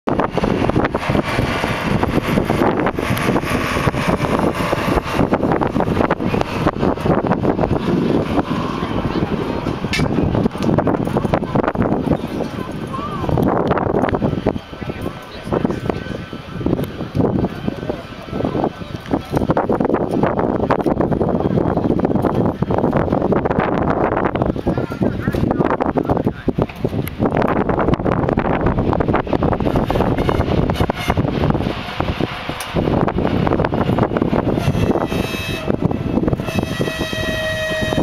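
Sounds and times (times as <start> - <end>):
loud jet engine noise: 0.1 - 38.0.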